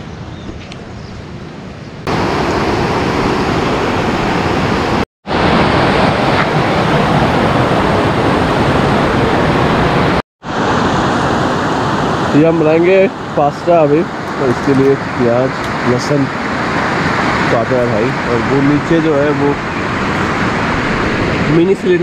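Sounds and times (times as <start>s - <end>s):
fast-flowing mountain river rushing: 2.1s - 22.0s.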